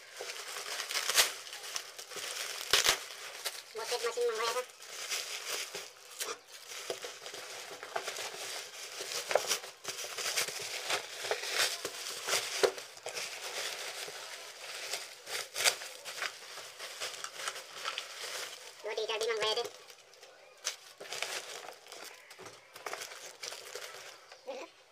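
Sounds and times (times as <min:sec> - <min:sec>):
plastic sack crinkling: 0:00.0 - 0:24.3.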